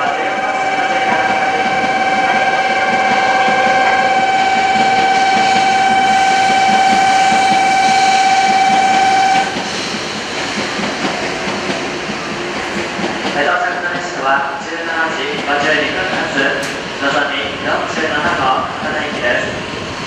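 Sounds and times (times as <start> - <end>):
high train whine: 0.0 - 20.0
train running noise: 0.0 - 20.0.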